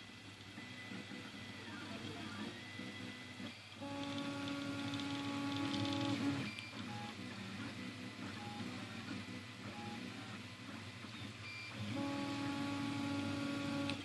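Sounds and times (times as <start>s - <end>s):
printer stepper motors whining: 0.0s - 14.0s.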